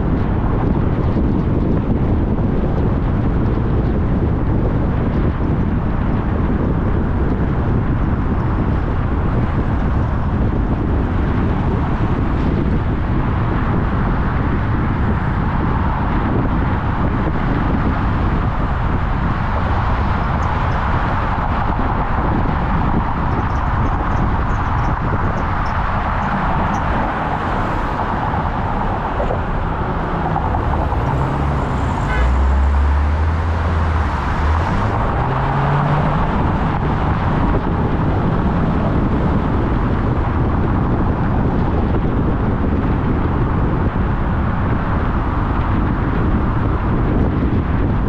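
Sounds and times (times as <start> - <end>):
car engine drone: 0.0 - 48.0
tyre and wind noise: 0.0 - 48.0.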